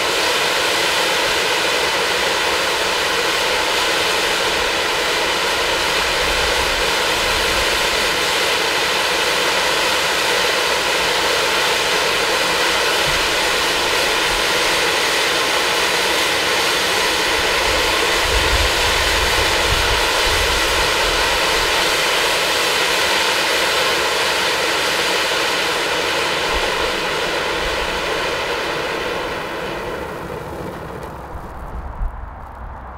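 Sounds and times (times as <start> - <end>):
firework fountain hissing: 0.0 - 32.4.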